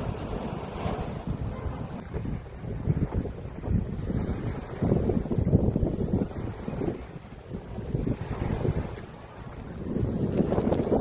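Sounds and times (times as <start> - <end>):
sea waves washing onto beach: 0.0 - 11.0
wind buffeting microphone: 0.0 - 11.0.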